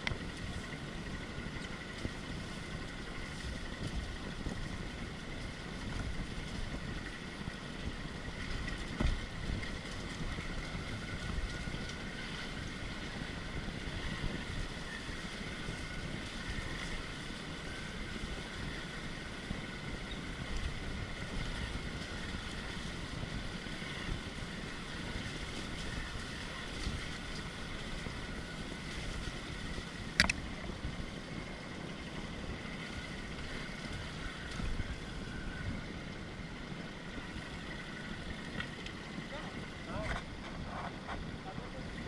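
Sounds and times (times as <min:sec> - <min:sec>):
motorcycle engine rumbling: 0:00.0 - 0:42.0
wind noise on microphone: 0:00.0 - 0:42.0.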